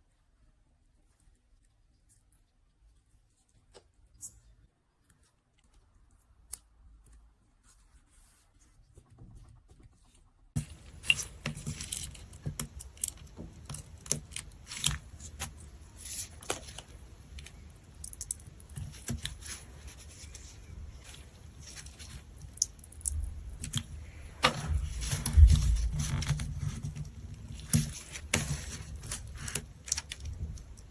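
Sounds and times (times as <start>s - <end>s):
sticky crackling and crinkling: 0.0s - 30.9s.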